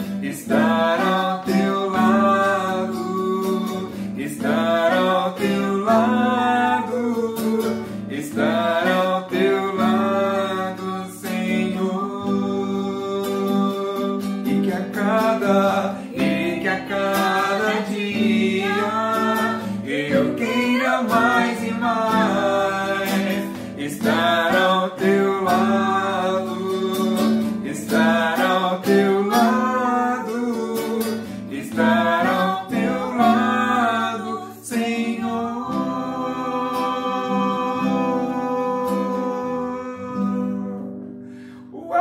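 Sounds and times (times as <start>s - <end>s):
nylon-string guitar: 0.0s - 42.0s
woman and man singing duet: 0.0s - 42.0s.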